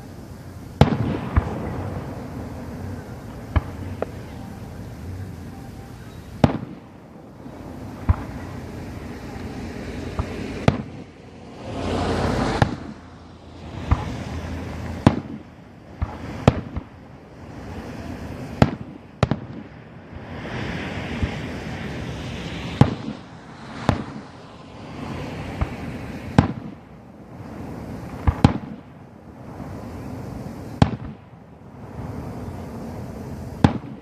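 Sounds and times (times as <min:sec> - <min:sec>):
fireworks bursting with bangs: 0:00.0 - 0:34.0
steady rushing hiss: 0:00.0 - 0:34.0.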